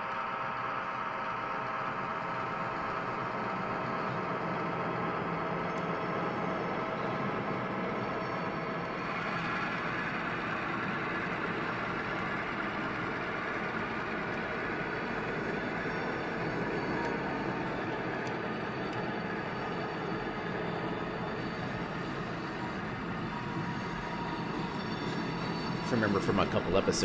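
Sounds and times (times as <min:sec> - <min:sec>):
model locomotive engine sound: 0:00.0 - 0:27.0.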